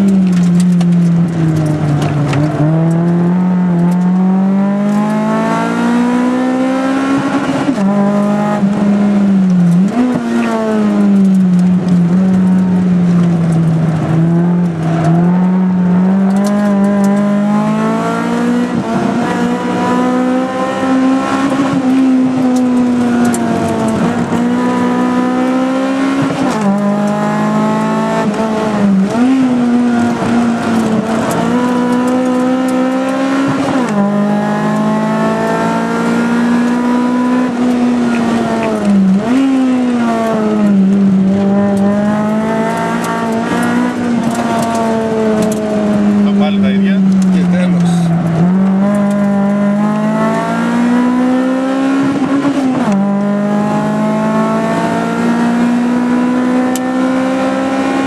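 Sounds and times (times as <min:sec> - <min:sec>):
car engine revving: 0:00.0 - 0:58.0
gear changes: 0:00.0 - 0:58.0.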